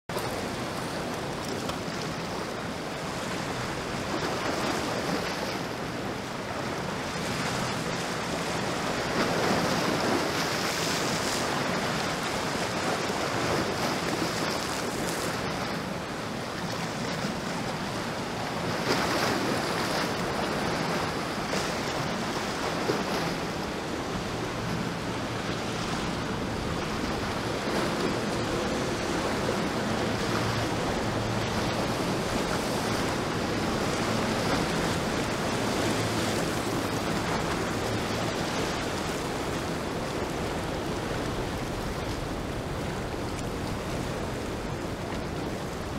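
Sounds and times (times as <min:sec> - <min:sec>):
boat engine drone: 0:00.1 - 0:45.9
breaking waves: 0:00.1 - 0:45.9
wind buffeting microphone: 0:02.2 - 0:45.9.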